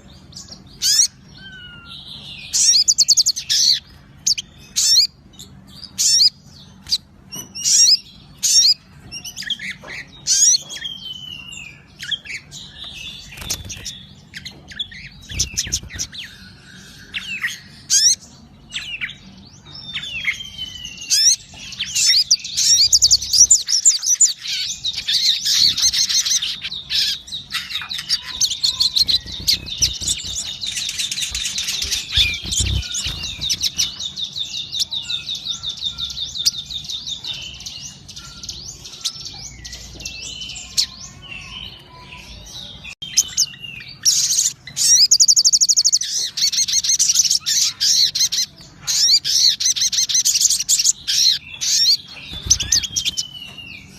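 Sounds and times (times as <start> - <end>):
songbird singing: 0.0 - 53.9.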